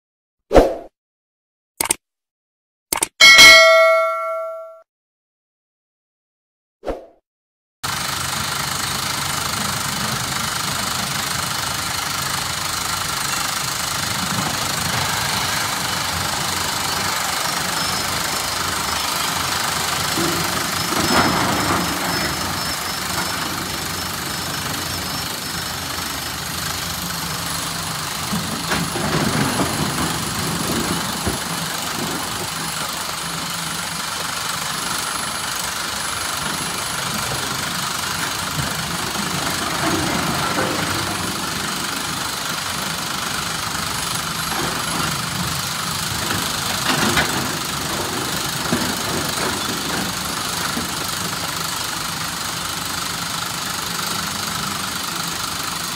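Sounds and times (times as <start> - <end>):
excavator diesel engine running: 7.8 - 55.9.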